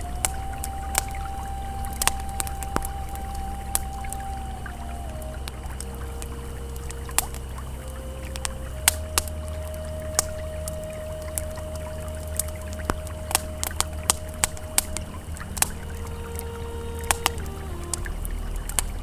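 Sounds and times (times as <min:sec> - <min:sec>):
campfire crackling and popping: 0:00.0 - 0:19.0
river flowing: 0:00.0 - 0:19.0
soft ambient tone: 0:00.0 - 0:19.0.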